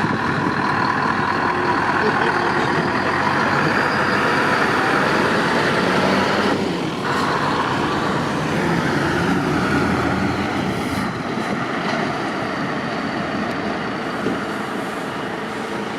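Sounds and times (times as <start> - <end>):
lorry engine running: 0.0 - 15.9
motorway traffic noise: 0.0 - 15.9.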